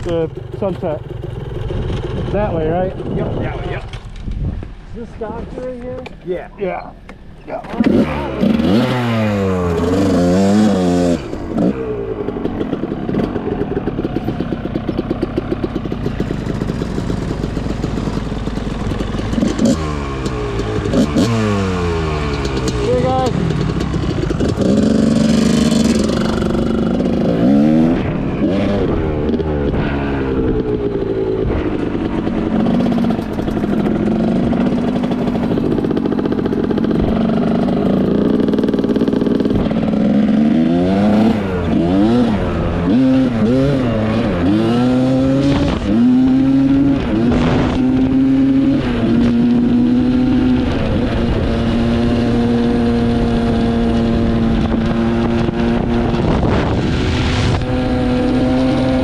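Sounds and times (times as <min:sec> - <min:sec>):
dirt bike engine revving: 0:06.7 - 0:59.0.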